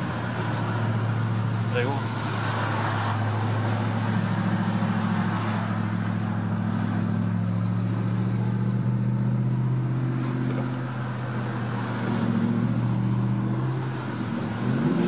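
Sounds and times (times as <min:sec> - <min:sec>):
car engine cruising: 0:00.0 - 0:15.0
tyre and road noise: 0:00.0 - 0:15.0.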